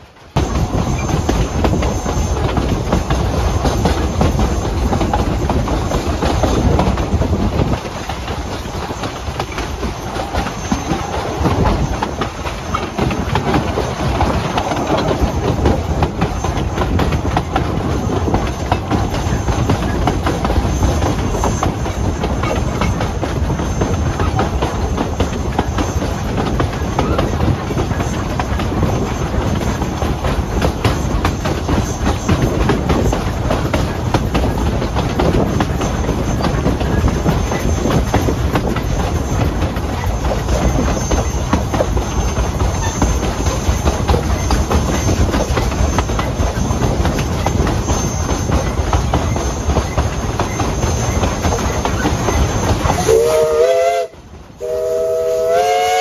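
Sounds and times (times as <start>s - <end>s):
wheels clattering on rail: 0.0s - 56.0s.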